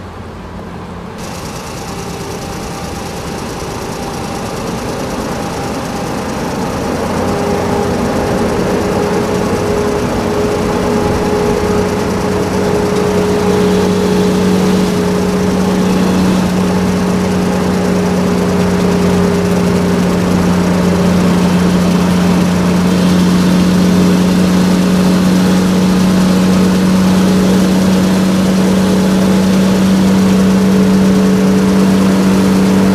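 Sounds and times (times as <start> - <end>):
toy electric motors humming: 1.2 - 32.9.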